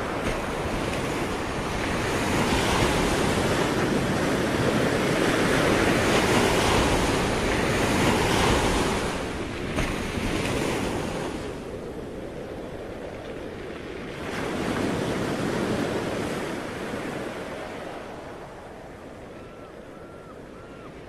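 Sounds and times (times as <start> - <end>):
sea waves washing on shore: 0.0 - 21.0
wind: 0.0 - 21.0.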